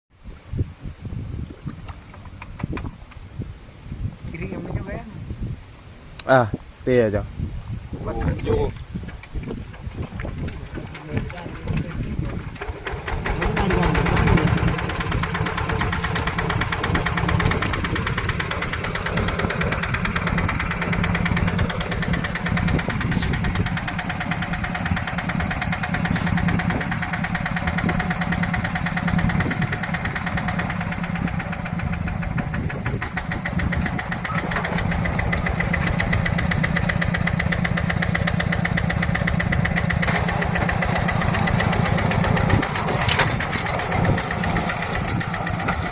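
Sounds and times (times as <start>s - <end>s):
tractor diesel engine chugging: 8.1s - 45.9s.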